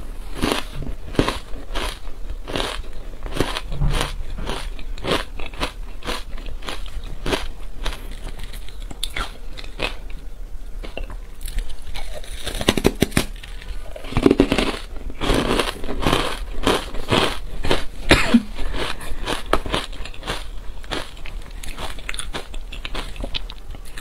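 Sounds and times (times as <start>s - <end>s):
ice crunching between teeth: 0.4s - 10.1s, 11.4s - 24.0s.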